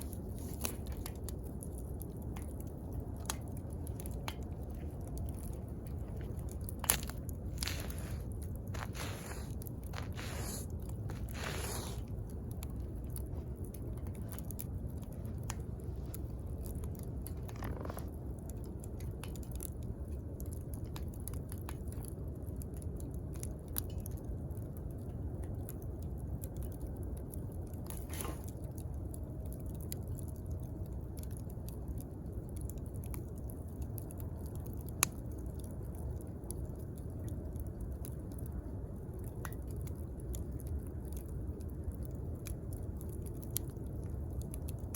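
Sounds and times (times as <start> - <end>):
campfire crackling: 0.0 - 44.9
soft fire hisses: 0.0 - 44.9.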